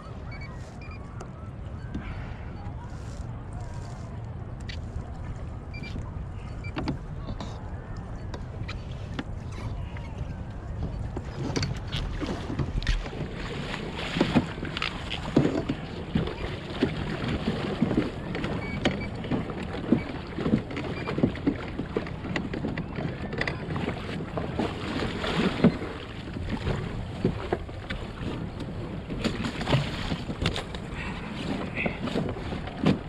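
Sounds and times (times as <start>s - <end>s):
water sloshing against kayak hull: 0.0s - 33.0s.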